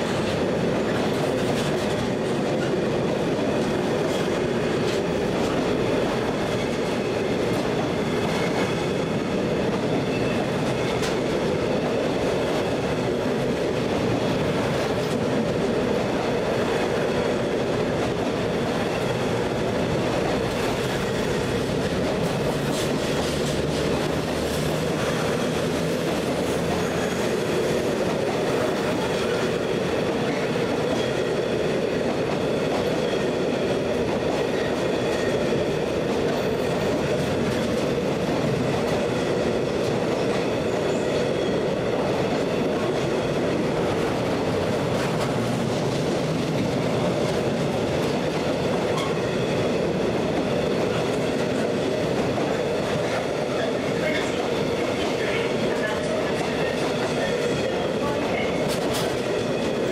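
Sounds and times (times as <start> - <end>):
train wheels rumbling and rattling: 0.0 - 59.9.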